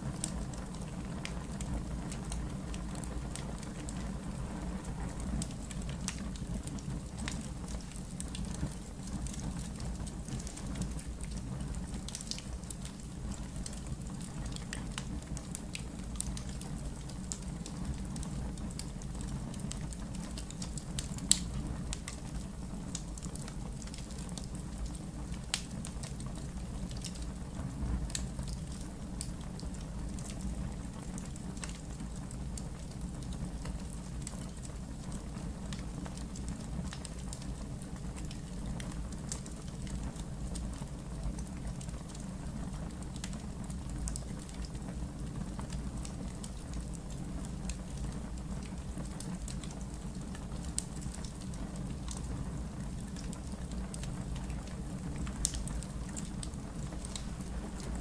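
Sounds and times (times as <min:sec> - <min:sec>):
burning logs crackling and popping: 0:00.0 - 0:58.0
low rumble of flames: 0:00.0 - 0:58.0.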